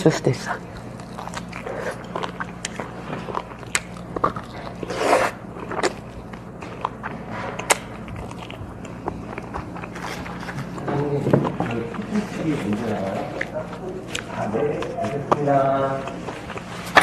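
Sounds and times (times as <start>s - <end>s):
biting and chewing: 0.4s - 17.0s.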